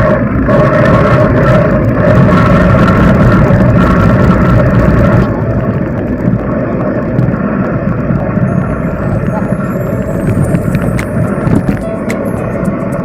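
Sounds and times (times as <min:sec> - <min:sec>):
wind rumbling over microphone: 0:00.0 - 0:13.0.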